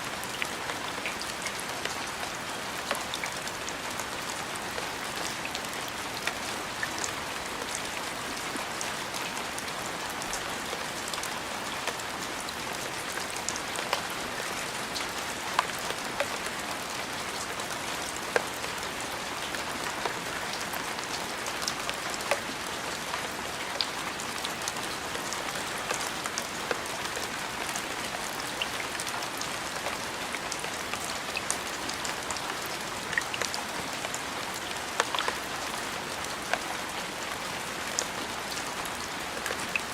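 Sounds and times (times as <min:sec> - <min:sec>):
raindrops ticking on a surface: 0:00.1 - 0:39.9.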